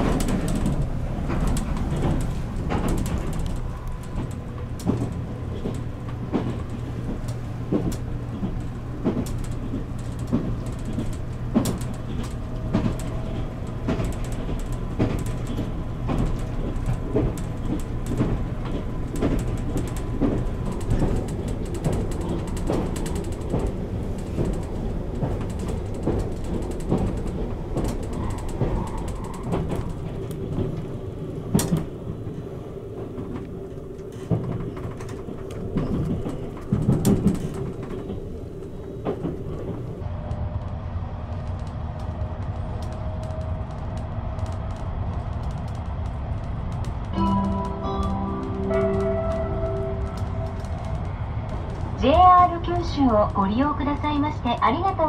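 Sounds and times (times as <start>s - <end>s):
train interior rumble: 0.0s - 55.0s.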